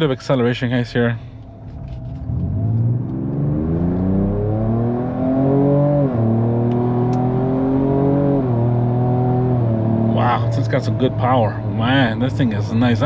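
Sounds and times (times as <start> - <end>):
engine accelerating with upshifts: 1.4 - 13.0.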